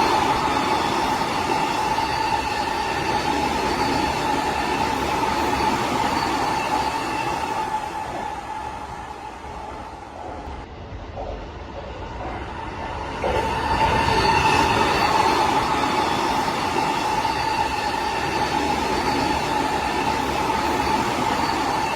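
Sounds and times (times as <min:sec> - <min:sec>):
electric train running: 0:00.0 - 0:21.9.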